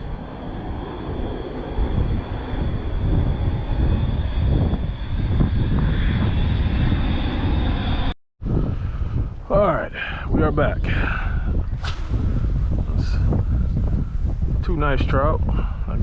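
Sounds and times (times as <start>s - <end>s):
aircraft engine rumble: 0.0s - 16.0s.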